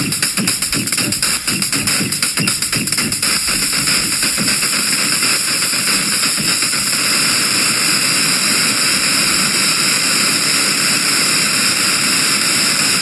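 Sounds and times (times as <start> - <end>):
synthesizer noise drone: 0.0 - 13.0.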